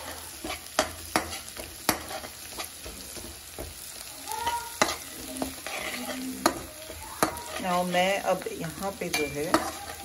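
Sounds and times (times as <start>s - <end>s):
garlic sizzling in hot oil: 0.0s - 10.0s
spatula scraping and knocking pan: 0.0s - 10.0s.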